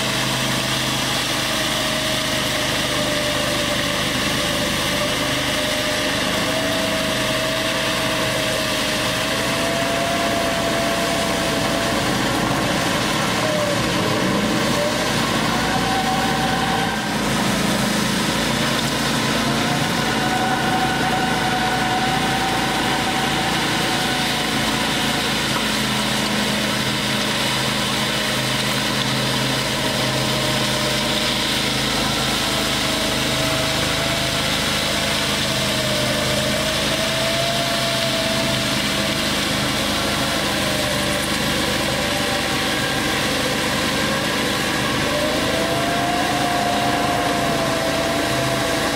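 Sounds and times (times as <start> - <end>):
power trowel engine running: 0.0 - 48.9.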